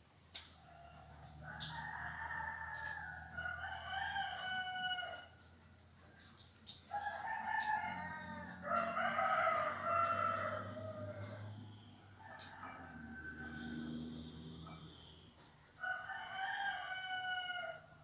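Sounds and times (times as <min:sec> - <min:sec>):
roosters crowing: 0:00.6 - 0:05.4, 0:06.9 - 0:18.0.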